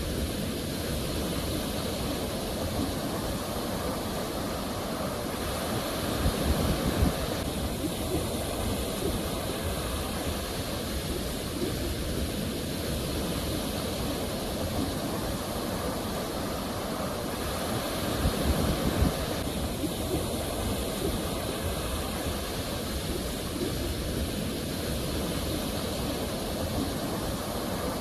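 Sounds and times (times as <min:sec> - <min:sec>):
ocean waves washing ashore: 0:00.0 - 0:28.0.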